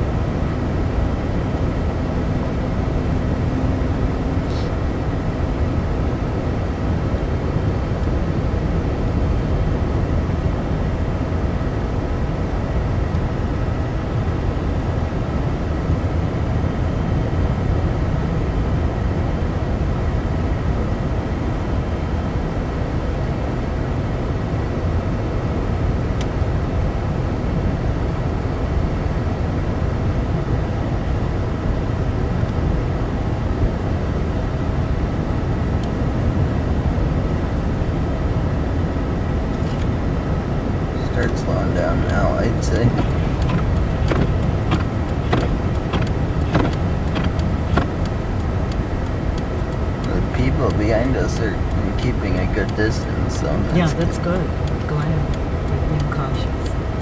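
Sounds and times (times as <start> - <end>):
car driving on snowy road: 0.0 - 57.0.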